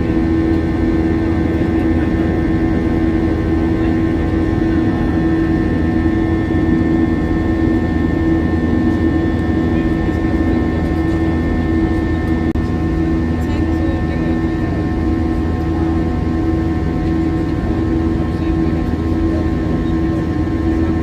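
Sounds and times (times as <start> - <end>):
constant hums: 0.0 - 21.0
jet engines rumbling in cabin: 0.0 - 21.0.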